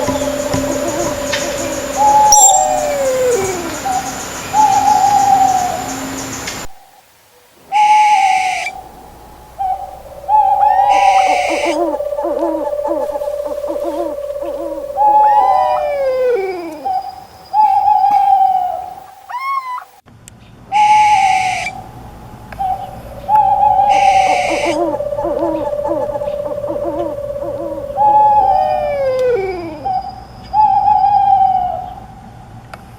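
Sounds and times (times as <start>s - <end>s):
owls hooting: 0.0s - 19.9s, 20.7s - 32.1s
harsh high-pitched owl call: 0.0s - 20.0s, 20.7s - 32.2s.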